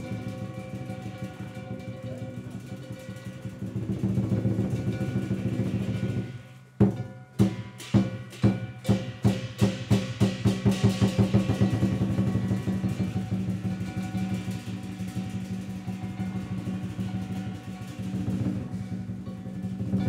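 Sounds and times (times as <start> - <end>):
clashing cymbals: 0.0 - 20.0
drum: 0.0 - 20.0
sharp percussion strikes: 0.0 - 20.0.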